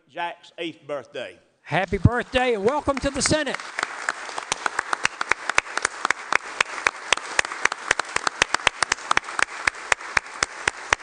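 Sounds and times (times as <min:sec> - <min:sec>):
crowd applauding: 0:01.8 - 0:11.0.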